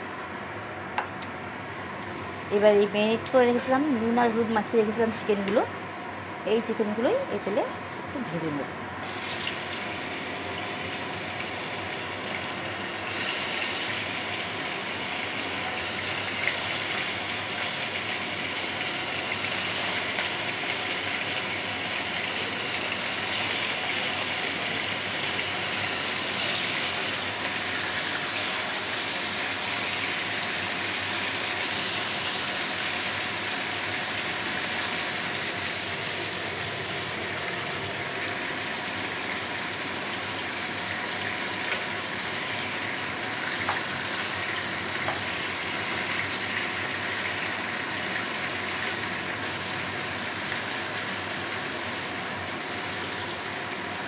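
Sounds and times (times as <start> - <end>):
chicken sizzling in hot oil: 9.0 - 54.0.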